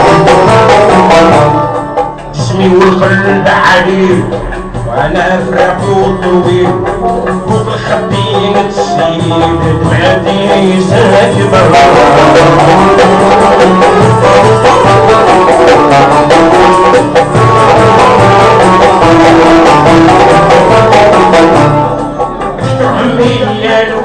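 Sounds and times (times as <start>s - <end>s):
frame drum beat: 0.0s - 24.0s
string instrument melody: 0.0s - 24.0s.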